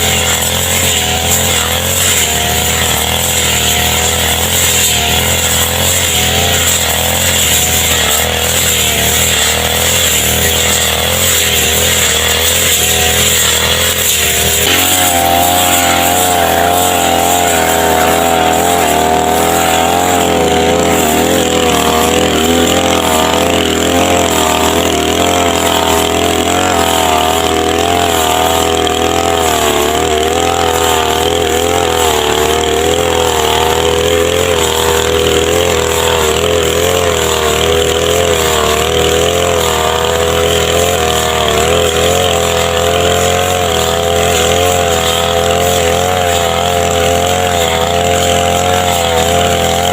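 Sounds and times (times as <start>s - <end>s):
brush cutter engine running: 0.0s - 49.9s.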